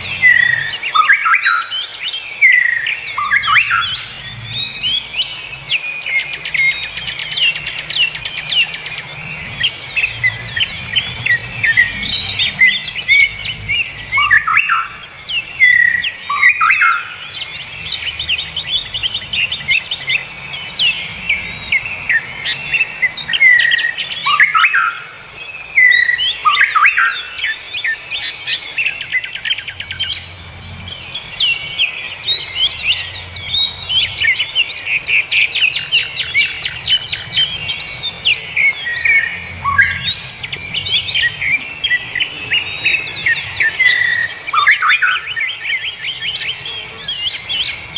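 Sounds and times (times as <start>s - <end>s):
songbirds chirping: 0.0s - 47.9s.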